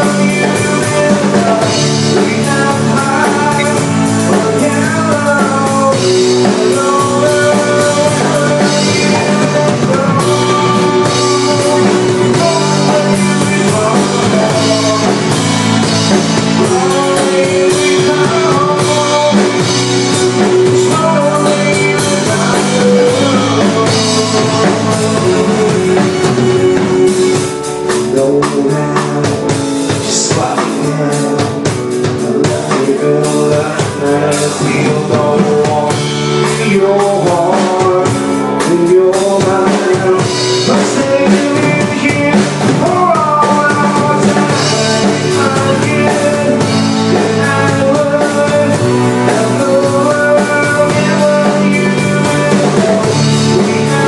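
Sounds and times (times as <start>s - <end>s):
live rock band playing: 0.0s - 54.0s
man singing: 0.0s - 54.0s.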